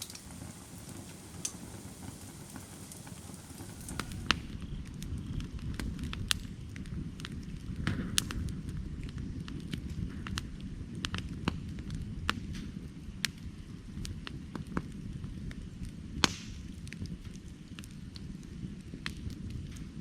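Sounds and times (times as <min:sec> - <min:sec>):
firewood crackling and popping: 0:00.0 - 0:20.0
flames rushing: 0:00.0 - 0:20.0.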